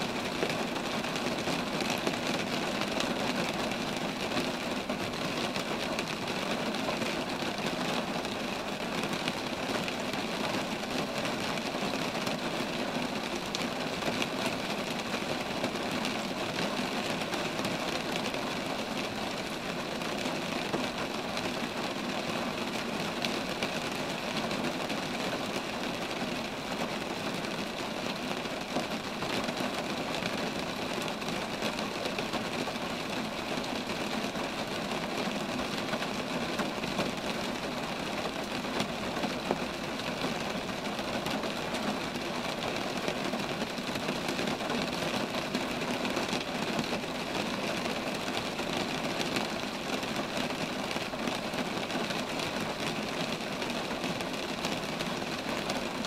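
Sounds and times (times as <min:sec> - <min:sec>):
rain falling on trees: 0:00.0 - 0:56.0.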